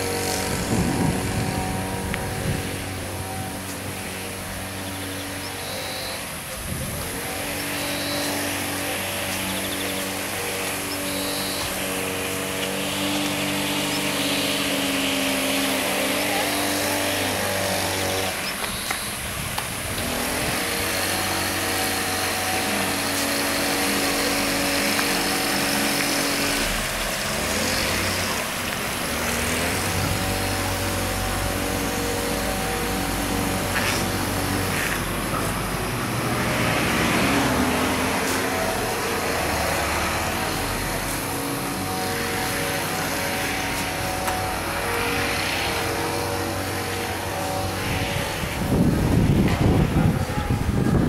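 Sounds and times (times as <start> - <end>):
water splashing into fountain pool: 0.0 - 50.0
steady mechanical hum: 0.0 - 51.0.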